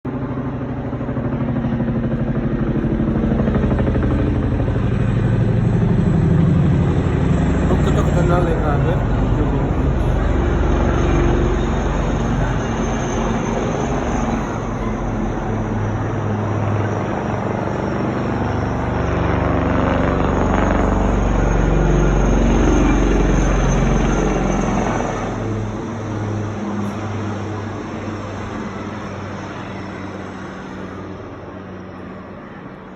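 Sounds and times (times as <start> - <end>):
helicopter flying past: 0.1 - 32.9.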